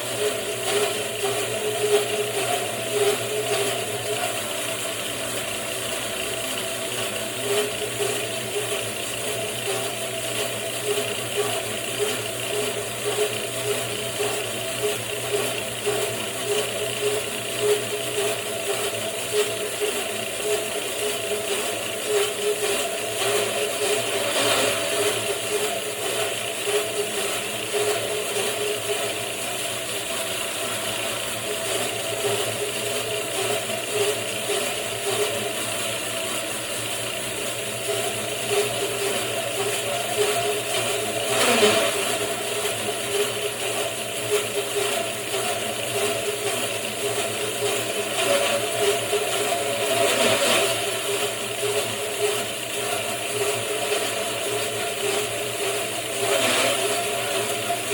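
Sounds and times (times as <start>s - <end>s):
bandsaw mill running: 0.0s - 57.9s.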